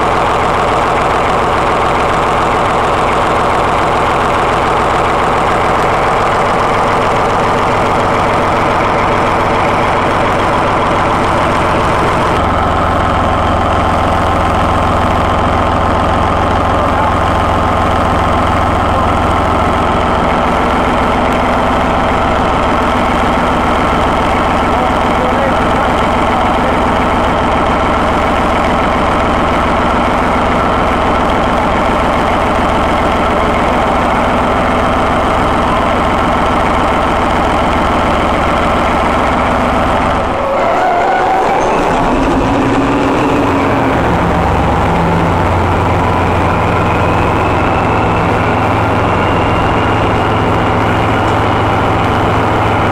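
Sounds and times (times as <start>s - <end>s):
diesel locomotive engine running: 0.0s - 52.9s.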